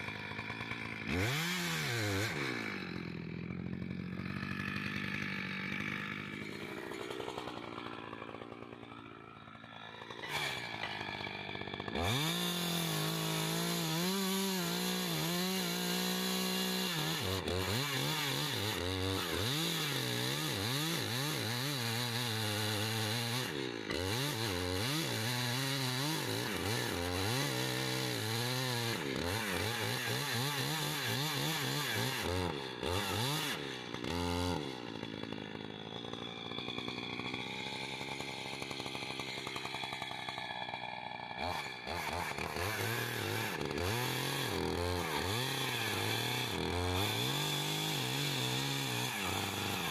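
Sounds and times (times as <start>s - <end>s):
chainsaw engine: 0.0s - 49.9s.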